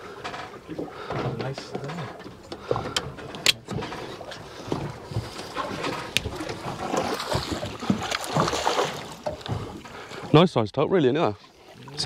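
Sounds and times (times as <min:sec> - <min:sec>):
water slapping boat hull: 0:00.0 - 0:12.0
fishing gear clicking and knocking: 0:00.1 - 0:10.0.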